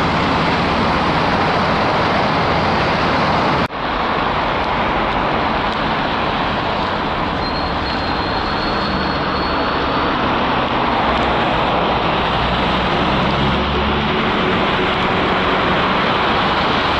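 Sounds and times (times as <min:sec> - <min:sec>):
tyre hiss of passing traffic: 0:00.0 - 0:16.9.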